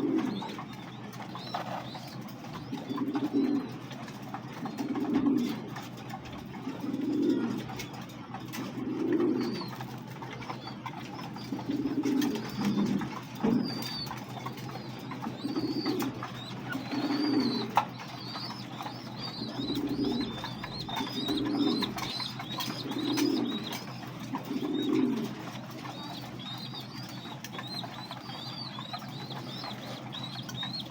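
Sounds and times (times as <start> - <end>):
pigeons cooing: 0.0 - 30.9
small birds chirping: 0.0 - 30.9.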